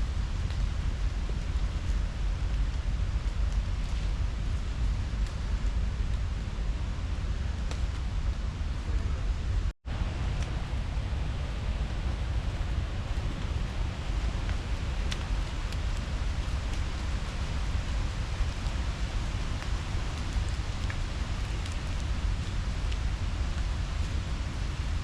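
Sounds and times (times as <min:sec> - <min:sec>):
low fluctuating rumble: 0:00.0 - 0:25.0.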